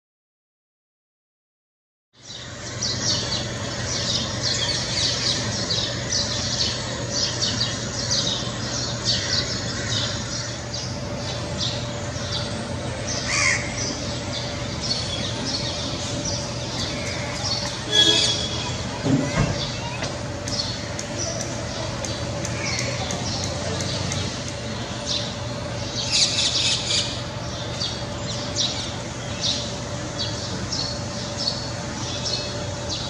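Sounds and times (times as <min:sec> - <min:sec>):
low hum of city noise: 0:02.2 - 0:33.0
small birds chirping: 0:02.2 - 0:33.0.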